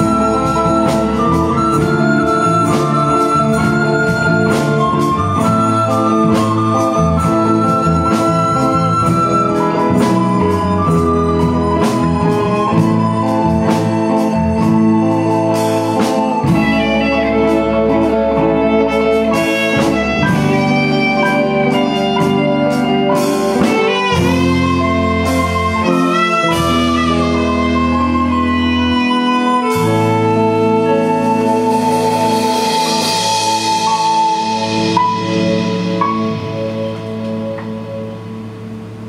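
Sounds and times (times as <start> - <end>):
electronic keyboards: 0.0 - 39.0
recorder melody: 0.0 - 39.0.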